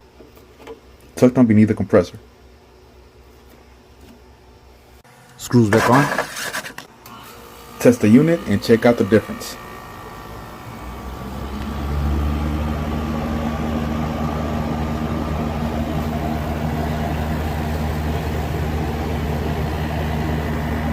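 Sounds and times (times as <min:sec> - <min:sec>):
air conditioner compressor humming: 0:00.0 - 0:20.9.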